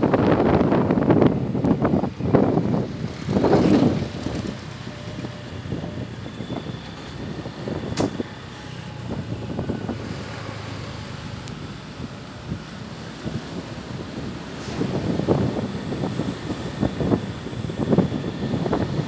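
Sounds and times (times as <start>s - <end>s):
road rumble: 0.0s - 19.0s
wind buffeting microphone: 0.0s - 19.0s.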